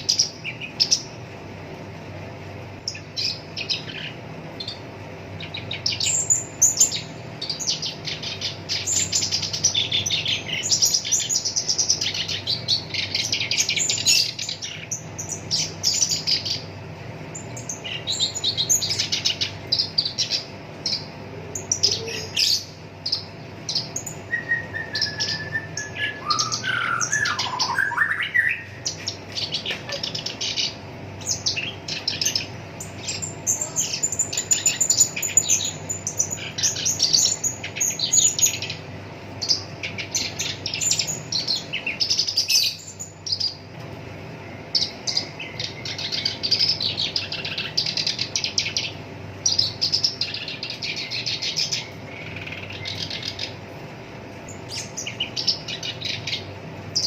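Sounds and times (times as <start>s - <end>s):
bird chattering song: 0.0s - 43.7s, 44.3s - 57.0s
faint steady hum: 0.0s - 57.0s.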